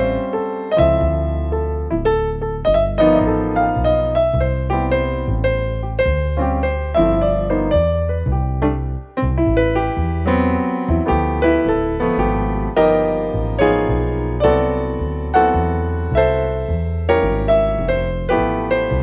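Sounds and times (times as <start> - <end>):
piano tune with bass line: 0.0 - 19.0.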